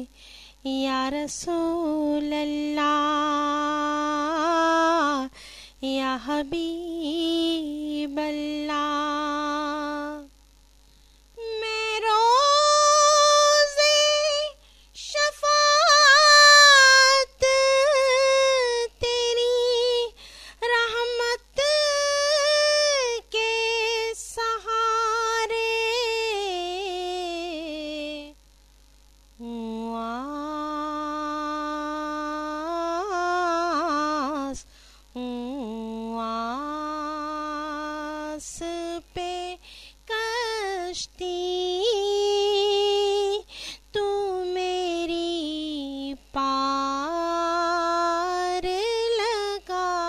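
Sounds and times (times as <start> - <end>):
woman singing: 0.0 - 10.3, 11.4 - 28.4, 29.4 - 50.0.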